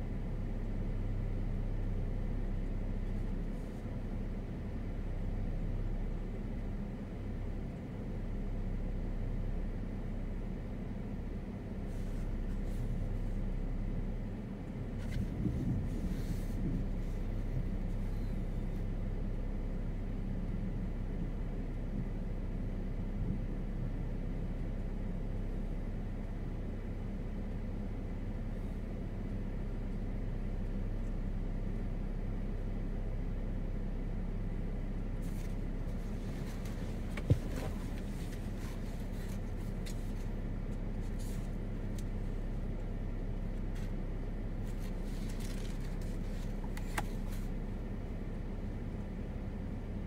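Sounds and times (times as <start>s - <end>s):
low outdoor background rumble: 0.0s - 50.0s.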